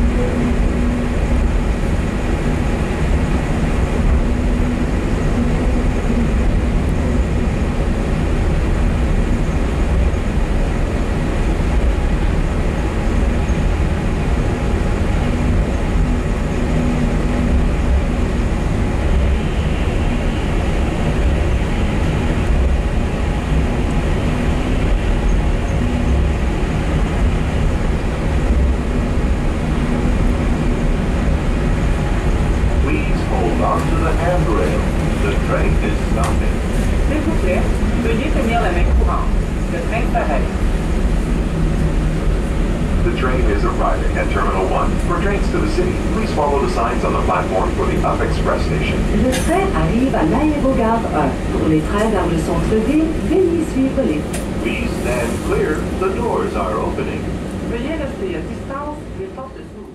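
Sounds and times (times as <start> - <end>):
people-mover car rumbling: 0.0 - 59.9.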